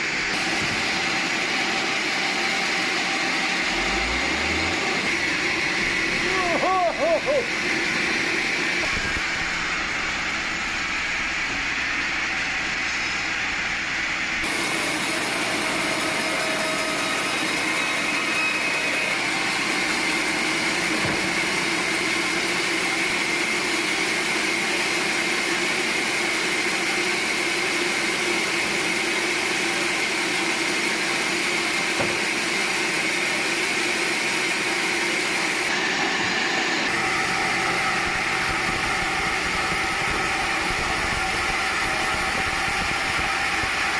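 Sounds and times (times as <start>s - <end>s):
high machine whine: 0.0s - 43.9s
sawmill machinery drone: 0.0s - 43.9s.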